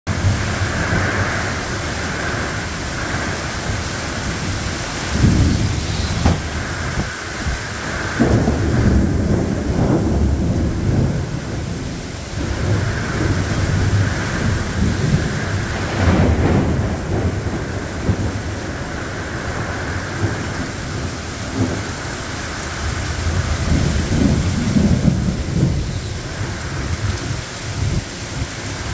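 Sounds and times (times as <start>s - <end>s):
heavy rain hissing: 0.1s - 28.9s
thunder rumbling: 0.1s - 28.9s.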